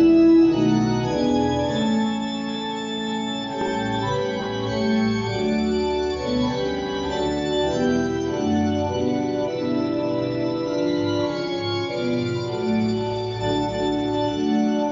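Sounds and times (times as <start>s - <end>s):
church organ playing hymn: 0.0s - 14.9s.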